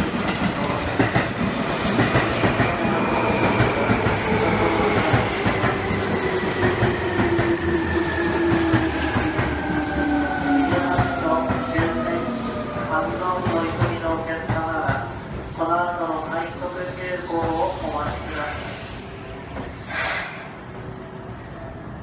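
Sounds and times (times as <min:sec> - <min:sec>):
electric train whine: 0:00.0 - 0:22.0
train running noise: 0:00.0 - 0:22.0.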